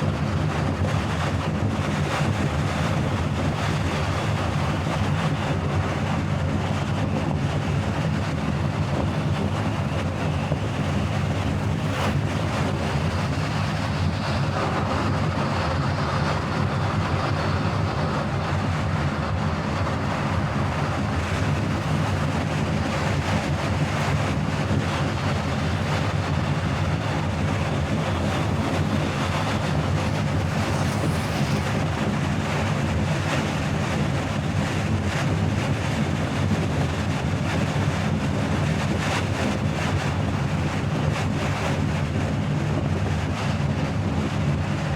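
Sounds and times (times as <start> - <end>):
car road and engine noise: 0.0 - 44.9.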